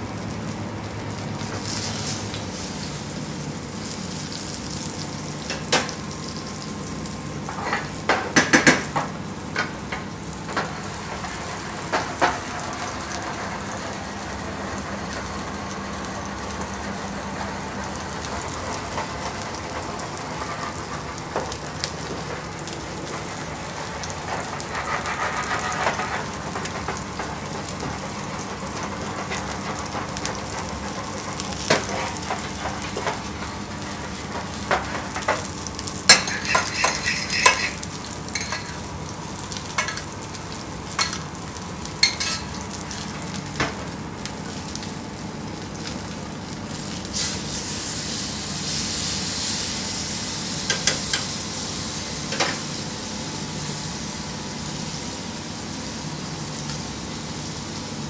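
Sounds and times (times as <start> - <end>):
meat sizzling in a frying pan: 0.0 - 58.0.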